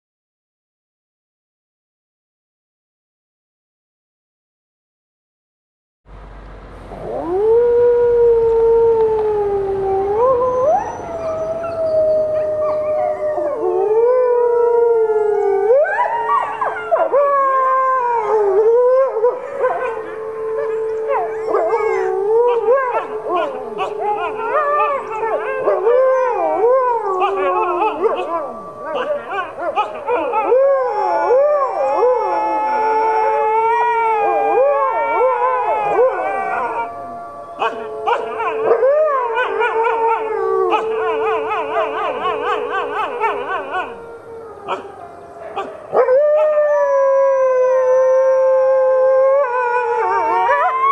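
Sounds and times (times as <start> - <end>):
dogs howling: 6.9 - 50.9.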